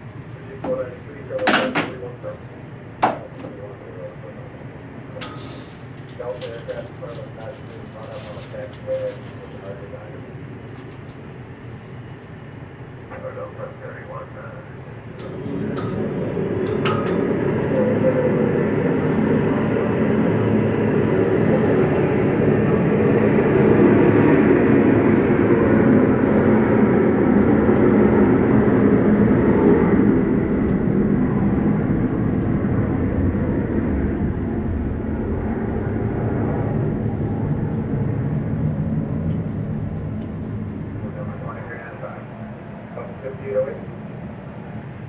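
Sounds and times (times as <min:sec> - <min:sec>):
jet engines passing: 0:00.0 - 0:45.0.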